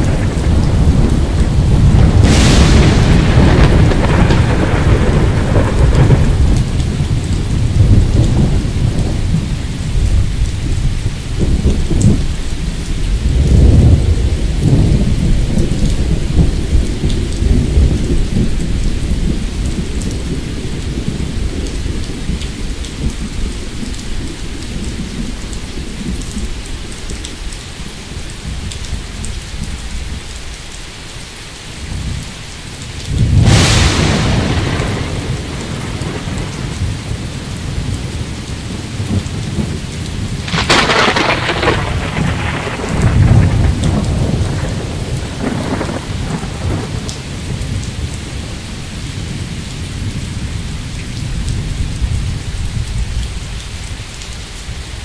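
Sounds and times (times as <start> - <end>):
thunder crack and rumbles: 0.0 - 30.3, 31.8 - 54.1
steady rain: 0.0 - 55.0.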